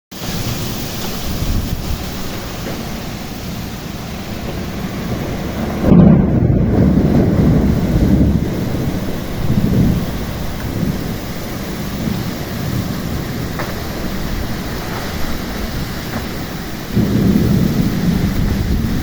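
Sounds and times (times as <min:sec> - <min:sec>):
steady rain: 0:00.1 - 0:19.0
thunder rolling: 0:00.1 - 0:19.0
wind: 0:00.1 - 0:19.0.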